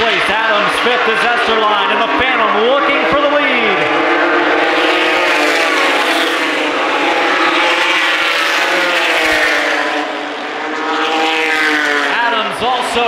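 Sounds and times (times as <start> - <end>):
race truck engines racing: 0.0 - 13.0.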